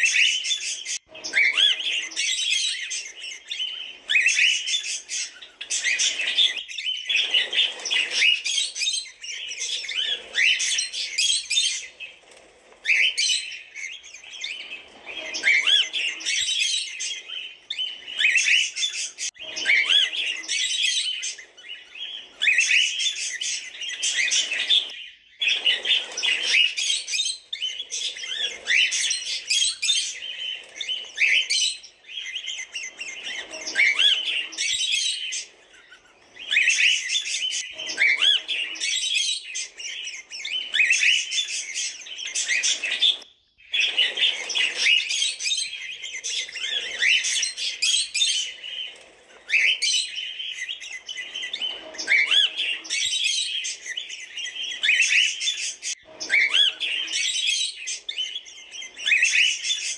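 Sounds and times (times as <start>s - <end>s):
cockatiels chirping: 0.0s - 59.9s.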